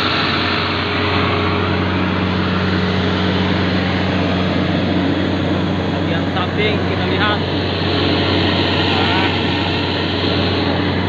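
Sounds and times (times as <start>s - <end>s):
combine harvester engine droning: 0.0s - 11.0s.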